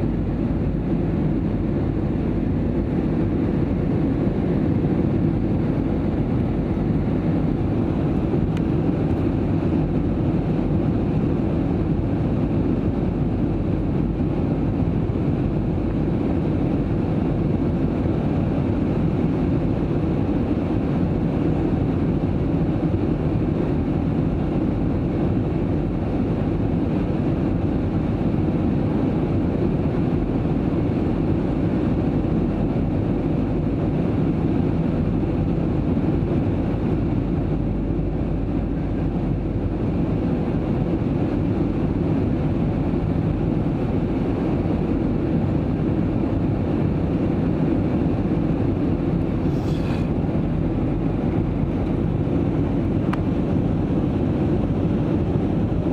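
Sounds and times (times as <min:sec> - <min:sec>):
airliner cabin engine drone: 0:00.0 - 0:55.9.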